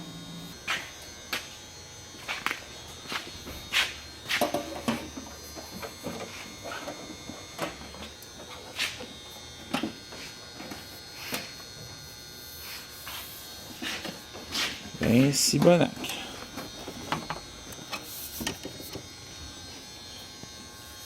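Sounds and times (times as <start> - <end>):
steady electric buzz: 0.0 - 21.0.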